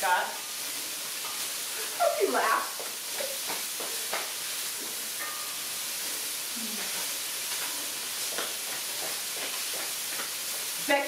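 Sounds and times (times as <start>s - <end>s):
meat sizzling in a skillet: 0.0s - 11.0s
spatula scraping a pan: 0.6s - 10.8s.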